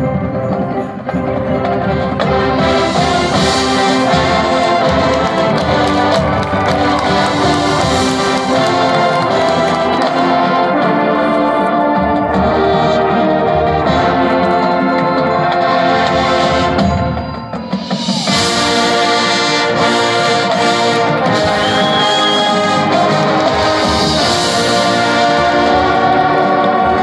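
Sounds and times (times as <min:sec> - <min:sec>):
brass chords: 0:00.0 - 0:17.2, 0:18.2 - 0:27.0
marching band playing: 0:00.0 - 0:27.0.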